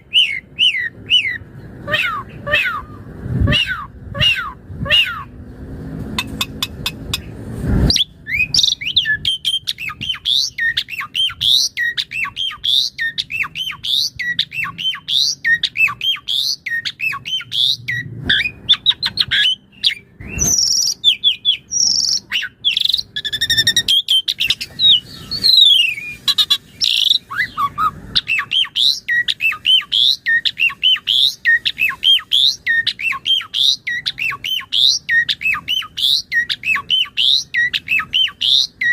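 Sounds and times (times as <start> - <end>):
starling singing: 0.0 - 5.4, 6.2 - 38.9.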